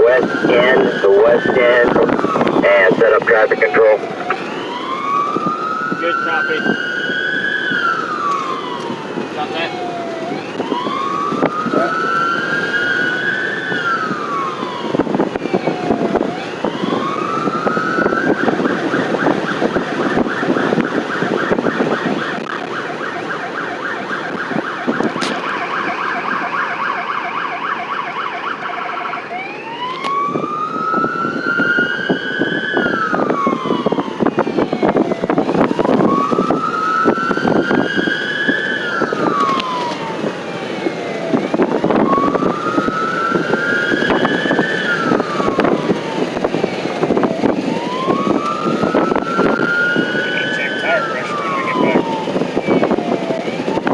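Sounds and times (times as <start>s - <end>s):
emergency vehicle siren: 0.0s - 53.9s.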